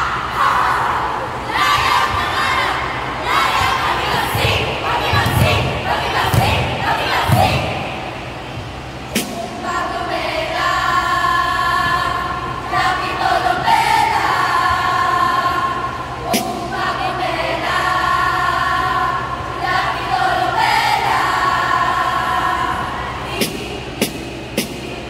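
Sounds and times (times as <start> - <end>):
girls singing in unison: 0.0 - 8.4, 9.2 - 24.2.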